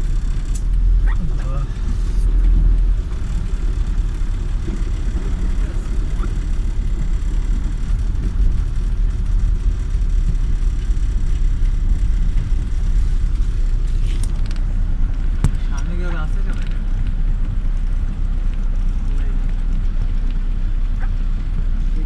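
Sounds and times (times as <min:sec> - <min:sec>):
car engine rumble: 0:00.0 - 0:22.0
road noise through water: 0:00.0 - 0:22.0.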